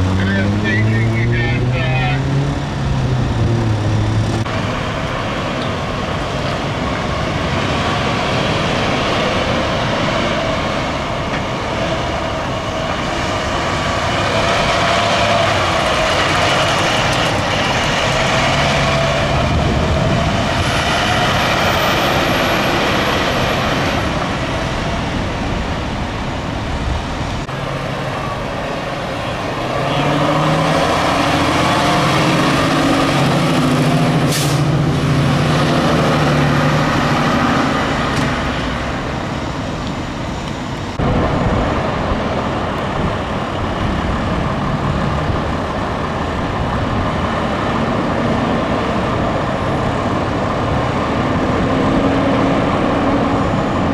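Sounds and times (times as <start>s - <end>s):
diesel fire trucks driving past: 0.0s - 53.9s.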